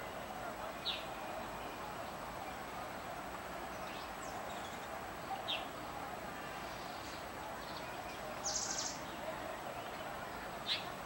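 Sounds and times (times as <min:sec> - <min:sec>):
outdoor background hiss: 0:00.0 - 0:11.0
songbirds chirping: 0:00.0 - 0:11.0.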